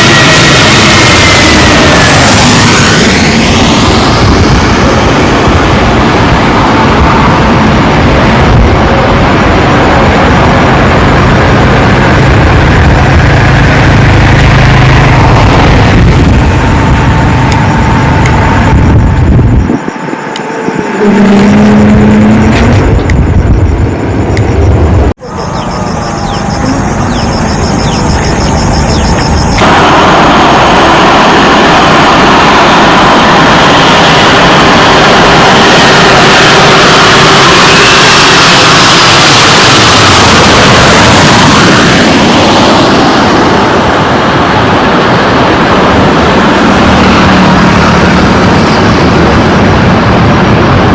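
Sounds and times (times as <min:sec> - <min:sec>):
faint steady whine: 0:00.0 - 0:50.9
jet engines rumbling: 0:00.0 - 0:50.9.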